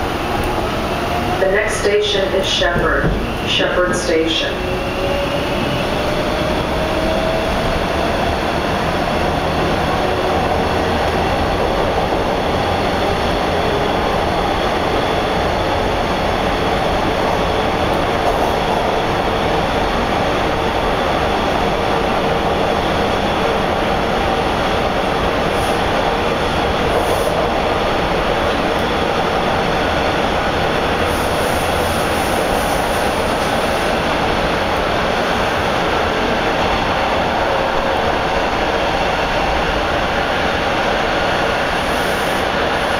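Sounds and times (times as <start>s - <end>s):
subway wheels rumbling on rail: 0.0s - 42.9s.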